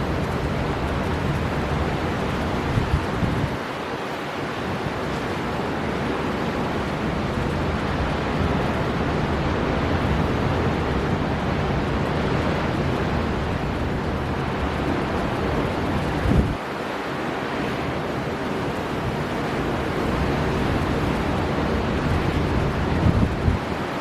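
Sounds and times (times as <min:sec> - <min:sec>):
storm wind blowing: 0:00.0 - 0:24.0
surf: 0:00.0 - 0:24.0
wind buffeting microphone: 0:00.0 - 0:24.0.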